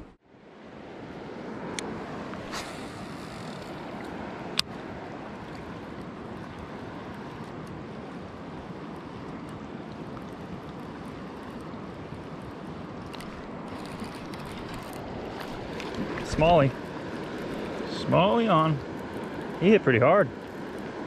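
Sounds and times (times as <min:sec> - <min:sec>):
river current rushing: 0:00.0 - 0:21.0.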